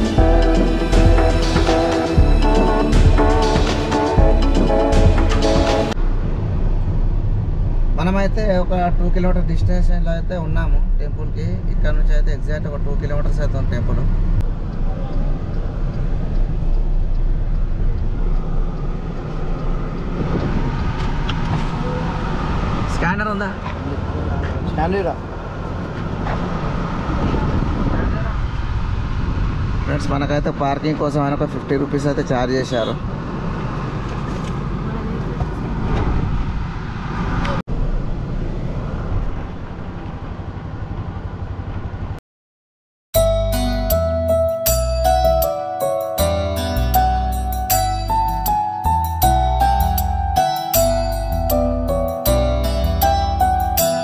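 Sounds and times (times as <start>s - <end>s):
road vehicle rumble: 0.0s - 42.2s, 43.2s - 54.0s.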